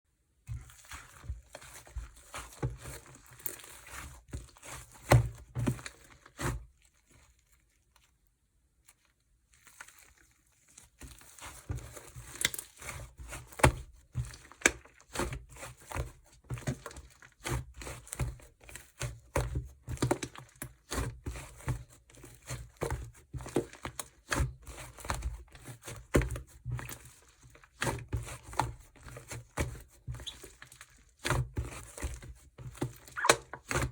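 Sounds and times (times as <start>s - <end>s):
hands squishing sticky slime: 0.5s - 7.7s, 8.9s - 18.2s, 18.8s - 33.9s.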